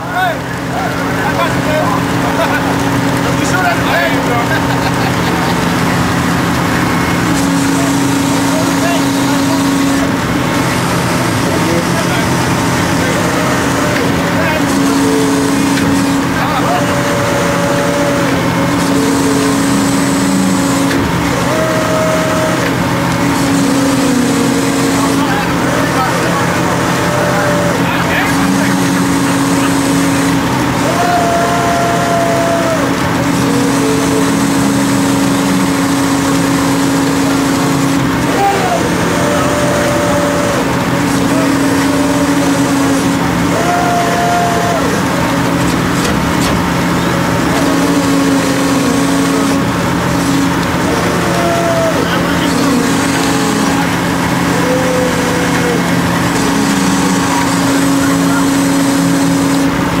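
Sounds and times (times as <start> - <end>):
loud engine drone: 0.0 - 60.0
machinery low hum: 0.0 - 60.0.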